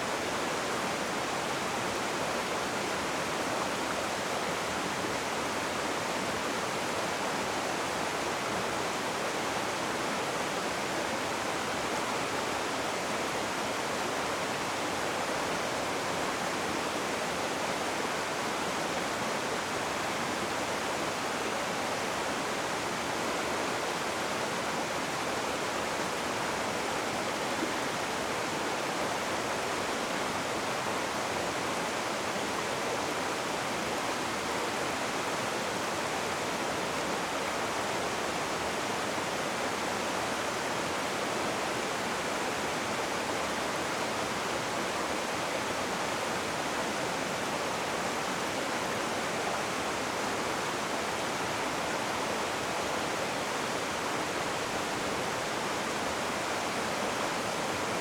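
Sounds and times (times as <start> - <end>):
rushing river whitewater: 0.0 - 58.0.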